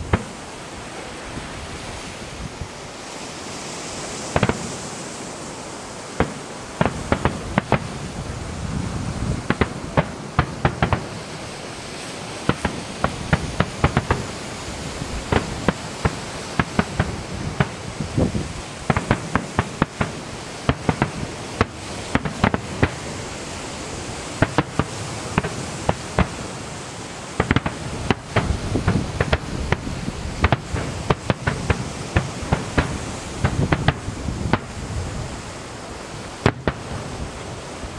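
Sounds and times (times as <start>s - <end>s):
fireworks bangs and crackles: 0.0s - 1.6s, 3.5s - 37.9s
steady background hiss: 0.0s - 37.9s.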